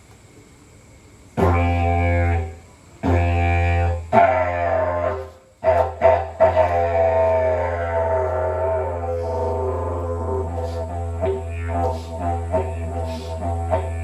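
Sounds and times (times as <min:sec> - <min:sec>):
didgeridoo drone: 0:01.4 - 0:14.0
voiced howl through didgeridoo: 0:01.4 - 0:14.0.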